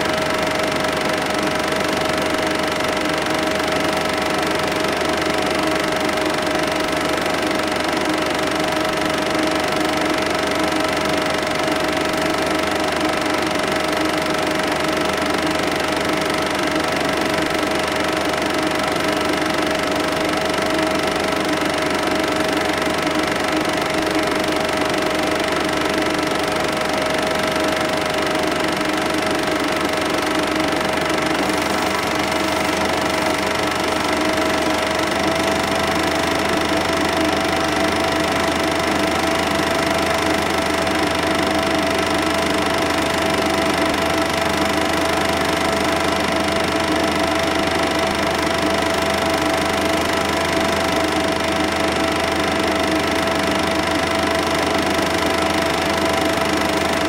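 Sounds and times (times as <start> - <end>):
film projector whirring and clattering: 0.0 - 57.0
projector hum: 0.0 - 57.0.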